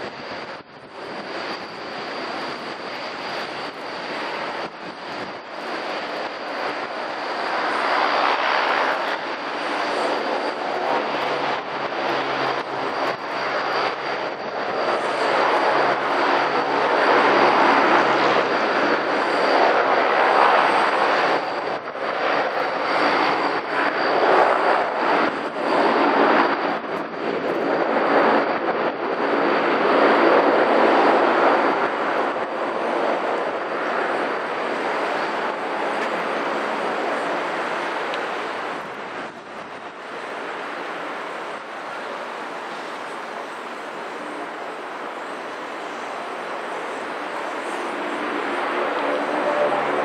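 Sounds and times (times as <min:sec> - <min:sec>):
high engine whine: 0:00.0 - 0:50.0
turboprop engines rushing: 0:00.0 - 0:50.0.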